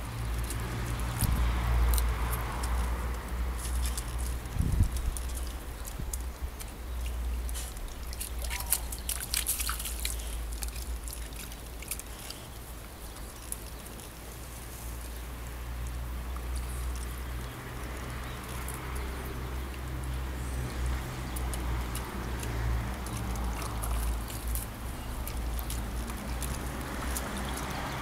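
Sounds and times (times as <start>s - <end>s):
water sloshing: 0.0s - 28.0s
water splashes: 0.0s - 28.0s.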